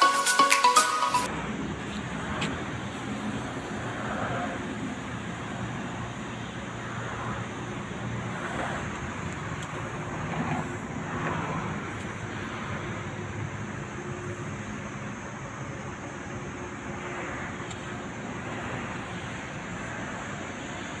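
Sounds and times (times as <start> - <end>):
distant engine and traffic hum: 1.3 - 21.0.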